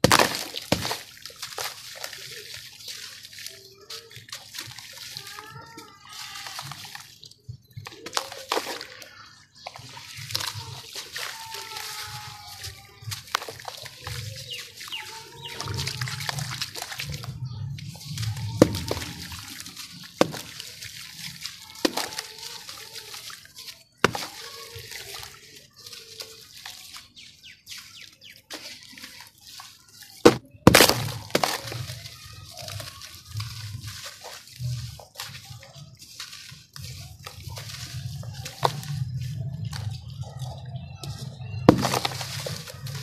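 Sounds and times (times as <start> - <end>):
grit pattering into a tub: 0.0 - 43.0
hands crunching dry cement mix: 0.0 - 43.0.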